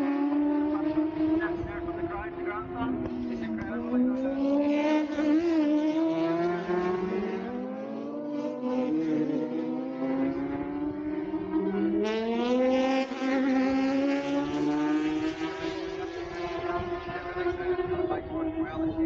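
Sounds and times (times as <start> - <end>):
louder motorcycle climbing in pitch: 0.0 - 19.0
motorcycles accelerating hard: 0.0 - 19.0.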